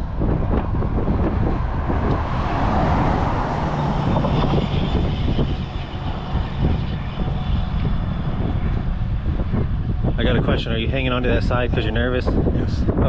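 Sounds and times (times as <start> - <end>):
vehicle passing by: 0.0 - 11.4
wind buffeting microphone: 0.0 - 13.0.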